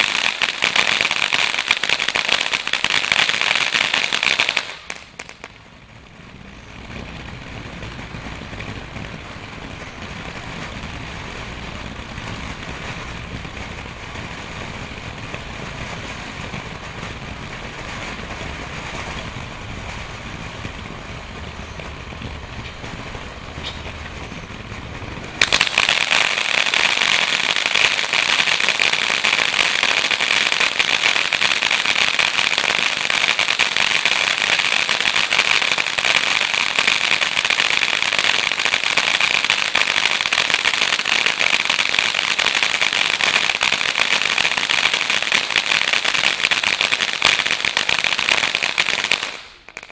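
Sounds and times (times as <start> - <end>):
firework cake crackling barrage: 0.0 - 49.9.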